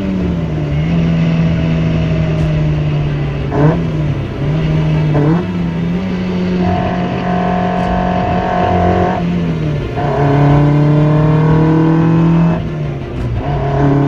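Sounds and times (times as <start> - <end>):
car engine revving under load: 0.0 - 14.0.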